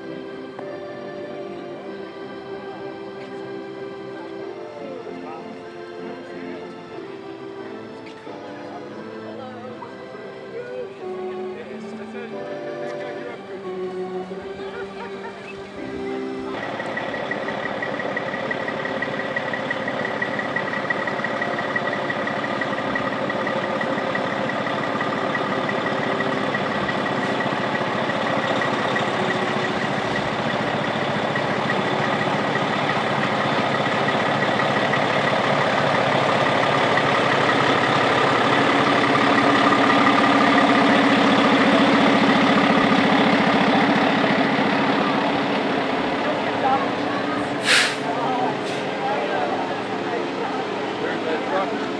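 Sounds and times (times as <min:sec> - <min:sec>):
heavy truck engine running: 0:00.0 - 0:51.9.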